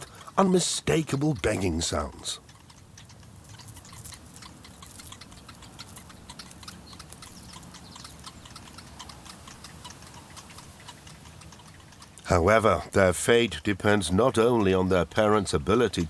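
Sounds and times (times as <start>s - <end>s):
bird chicks begging with ticking clicks: 0.0s - 16.0s.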